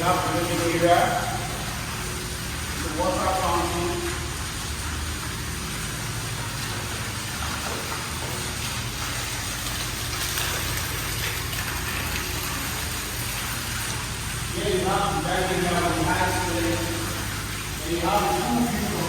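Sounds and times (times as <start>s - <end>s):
water fountain splashing: 0.0s - 19.0s.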